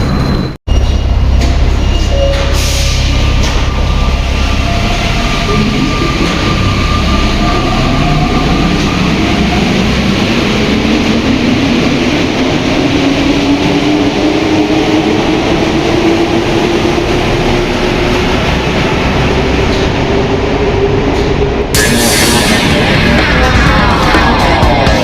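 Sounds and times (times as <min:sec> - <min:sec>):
metro train rumble: 0:00.0 - 0:25.0.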